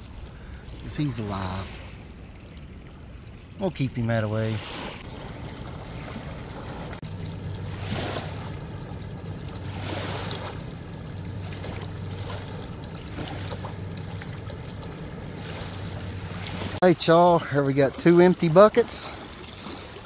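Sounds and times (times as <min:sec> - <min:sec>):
steady low hum: 0:00.0 - 0:18.0
water running and trickling: 0:00.0 - 0:20.0
water pouring: 0:00.2 - 0:20.0.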